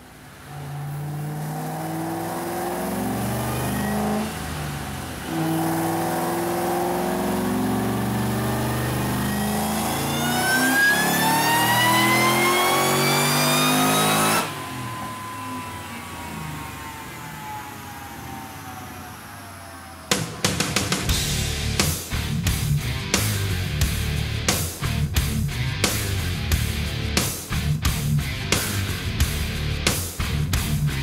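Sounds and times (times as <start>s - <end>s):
car engine revving at full throttle: 0.0s - 31.0s
high supercharger whine: 0.0s - 31.0s.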